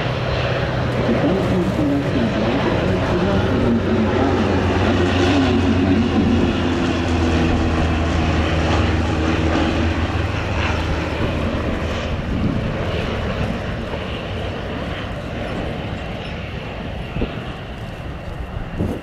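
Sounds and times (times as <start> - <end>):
propeller aircraft flying past: 0.0 - 19.0.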